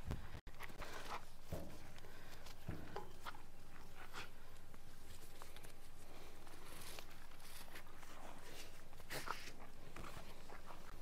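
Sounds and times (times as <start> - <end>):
hooves shifting on dirt: 0.0 - 11.0
rope rustling: 0.0 - 11.0.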